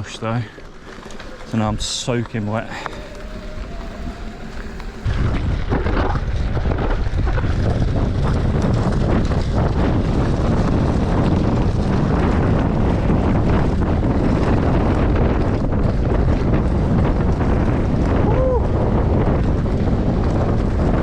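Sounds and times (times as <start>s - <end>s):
bike rattling: 0.0s - 21.0s
wind rushing over microphone: 0.0s - 21.0s.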